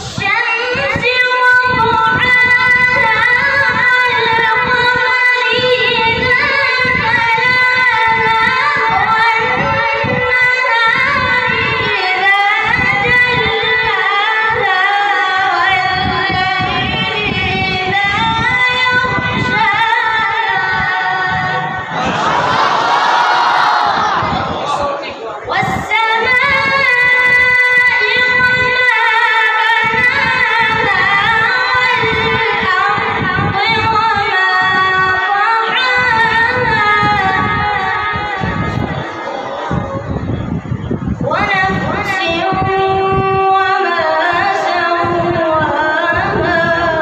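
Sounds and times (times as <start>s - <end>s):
boy reciting melodically: 0.0s - 22.6s, 23.9s - 47.0s.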